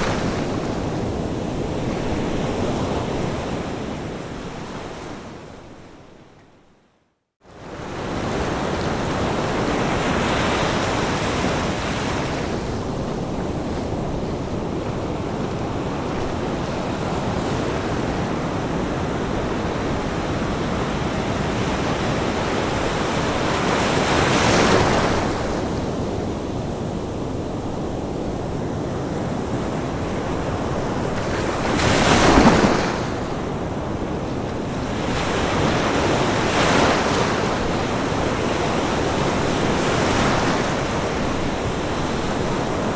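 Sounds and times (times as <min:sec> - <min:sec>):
ocean waves on beach: 0:00.0 - 0:06.1, 0:07.5 - 0:42.9.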